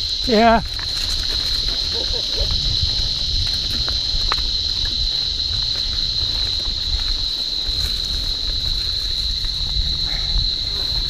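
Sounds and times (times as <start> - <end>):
bike tyres rolling on dirt: 0.0 - 11.0
cicadas droning: 0.0 - 11.0
wind rumble: 0.0 - 11.0.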